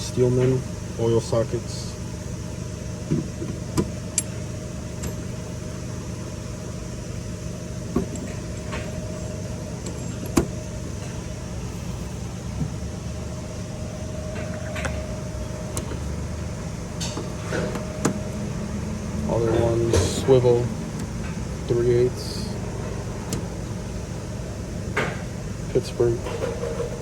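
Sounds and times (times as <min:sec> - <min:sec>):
auto shop background hum: 0:00.0 - 0:27.0.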